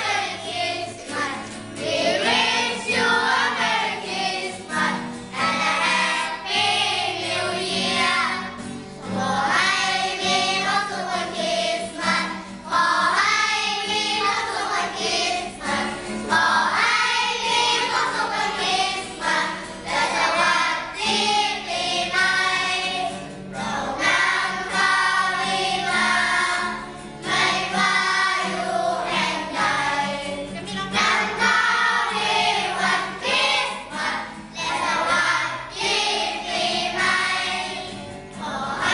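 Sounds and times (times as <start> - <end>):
children's choir singing: 0.0 - 38.9
musical accompaniment: 0.0 - 38.9.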